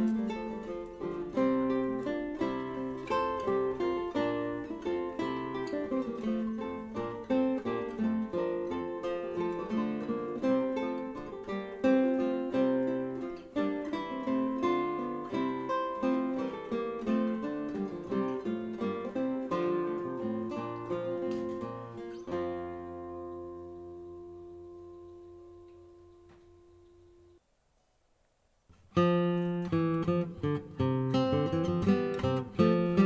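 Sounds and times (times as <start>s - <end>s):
solo acoustic guitar piece: 0.0s - 27.4s, 28.7s - 33.0s.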